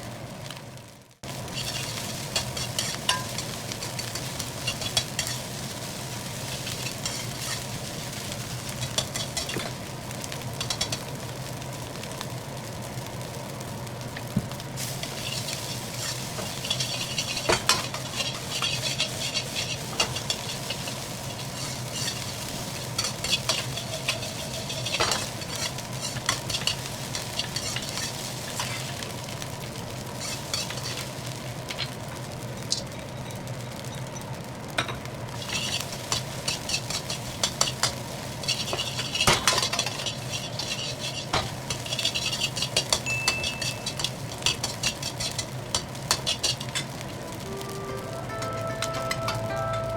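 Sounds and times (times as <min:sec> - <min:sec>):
food sizzling in a wok: 0:00.0 - 0:49.9
spatula scraping wok: 0:01.2 - 0:11.9, 0:14.8 - 0:34.2, 0:34.8 - 0:49.9.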